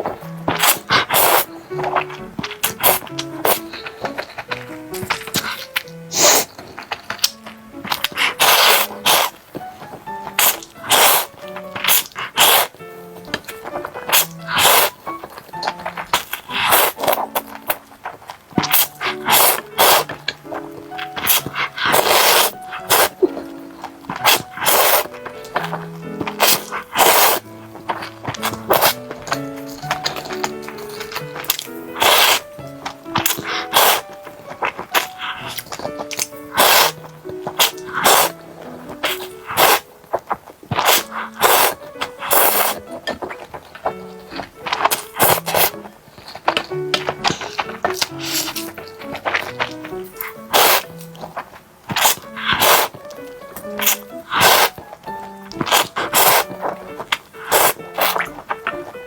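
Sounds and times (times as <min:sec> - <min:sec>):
noodles being slurped: 0:00.0 - 0:59.0
soft background music: 0:00.0 - 0:59.0.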